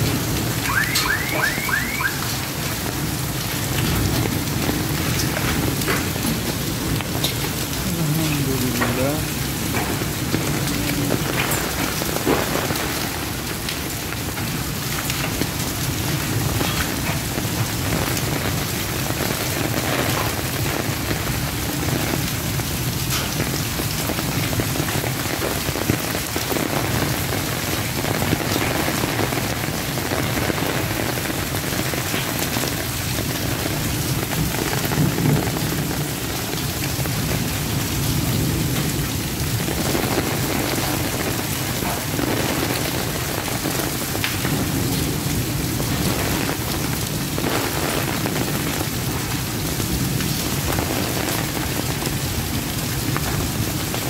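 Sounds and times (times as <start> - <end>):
heavy rain splashing on ground: 0.0 - 54.0
sharp taps of raindrops: 0.0 - 54.0.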